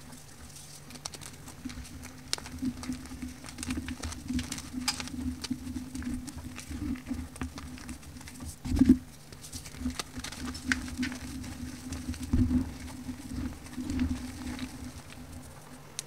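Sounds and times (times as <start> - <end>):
crunchy powder crumbled by hand: 0.0 - 16.0
patter of falling grains: 0.0 - 16.0.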